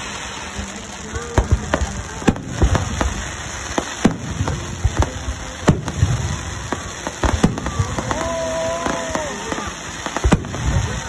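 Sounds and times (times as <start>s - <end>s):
crackling hiss: 0.0s - 11.0s
fireworks bangs: 0.0s - 11.0s.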